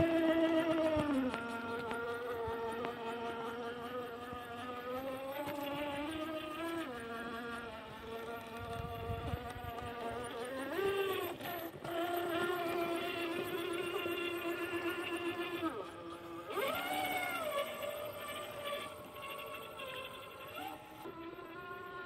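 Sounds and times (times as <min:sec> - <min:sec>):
toy car motor whining: 0:00.0 - 0:22.0.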